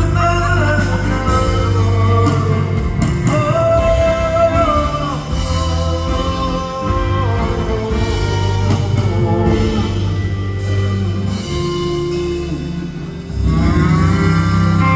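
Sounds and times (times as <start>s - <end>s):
soft rock band playing: 0.0s - 14.9s.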